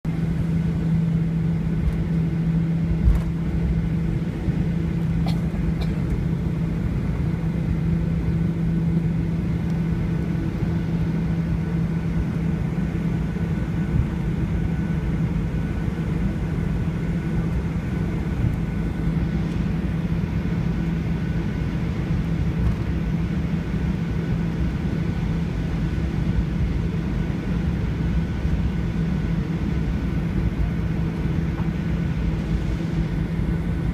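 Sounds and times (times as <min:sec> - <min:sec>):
airliner cabin engine rumble: 0:00.1 - 0:33.9.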